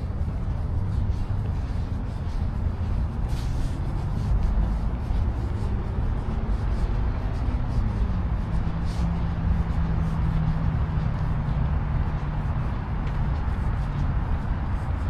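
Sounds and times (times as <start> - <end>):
road traffic rumble: 0.0 - 15.0
vehicle engine hum: 0.0 - 15.0.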